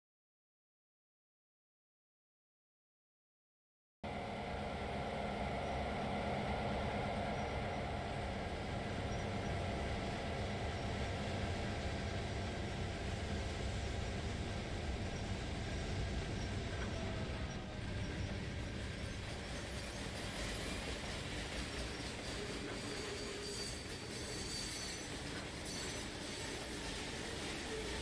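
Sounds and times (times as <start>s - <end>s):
train rolling past: 4.1s - 28.0s.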